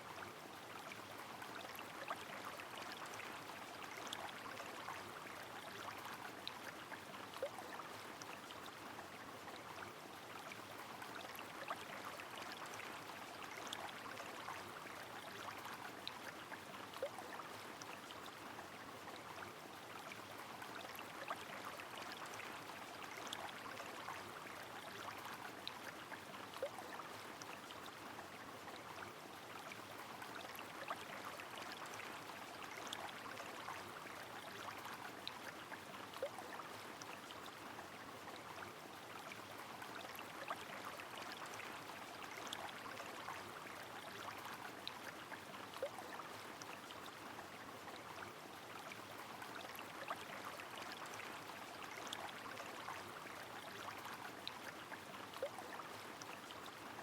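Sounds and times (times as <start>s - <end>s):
flowing river: 0.0s - 57.0s.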